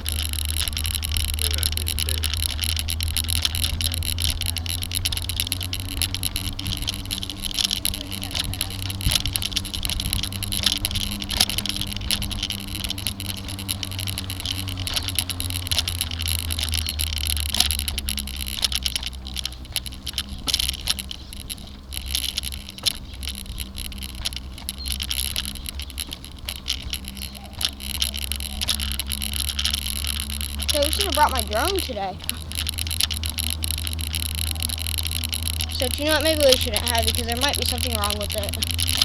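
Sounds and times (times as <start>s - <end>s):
bicycle tyres rumbling on road: 0.0s - 39.0s
bike rattles and clicks: 0.0s - 39.0s.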